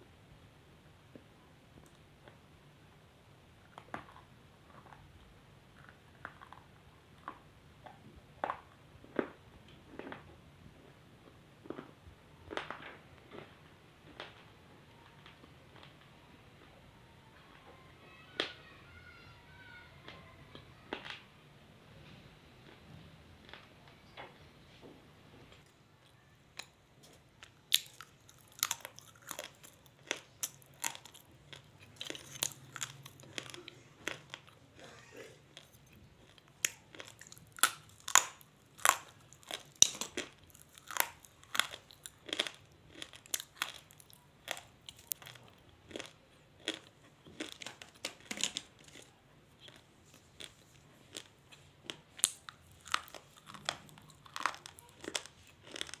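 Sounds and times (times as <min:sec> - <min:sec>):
person chewing dry clay: 0:03.6 - 0:16.8, 0:22.6 - 0:23.9, 0:25.6 - 0:56.0.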